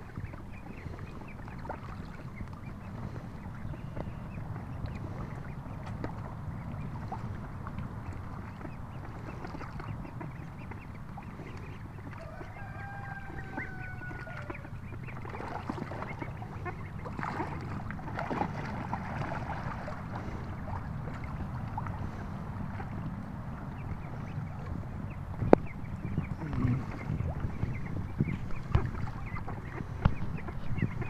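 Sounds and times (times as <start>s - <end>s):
drawn-out bird call: 0.0s - 18.1s, 19.5s - 31.0s
ducklings splashing in water: 0.0s - 31.0s
low steady rumble: 0.0s - 31.0s
soft bird calls: 0.0s - 31.0s.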